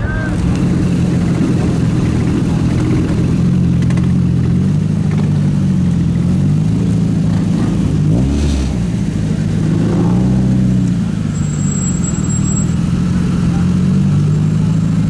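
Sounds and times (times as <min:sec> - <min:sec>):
car engine idling: 0:00.0 - 0:15.0
engine revving: 0:00.0 - 0:15.0.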